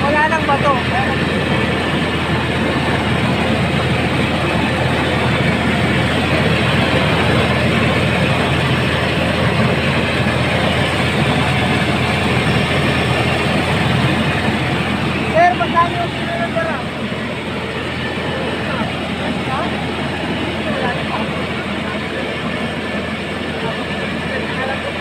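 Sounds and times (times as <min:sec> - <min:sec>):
rice mill machinery running: 0:00.0 - 0:25.0.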